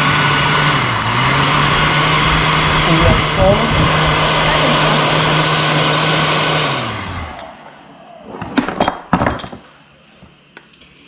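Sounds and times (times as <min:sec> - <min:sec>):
electric motor winding down: 0:00.0 - 0:09.0.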